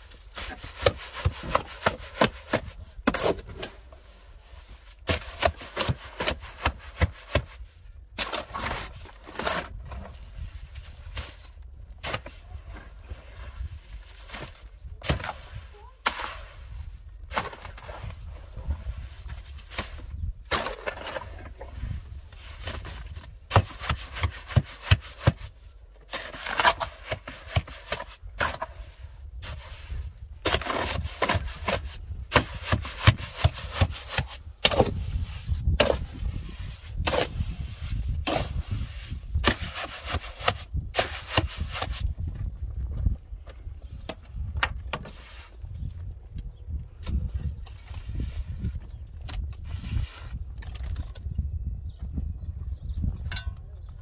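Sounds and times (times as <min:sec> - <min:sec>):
shovel scraping cement in wheelbarrow: 0:00.0 - 0:42.2, 0:45.0 - 0:45.7, 0:49.5 - 0:50.4.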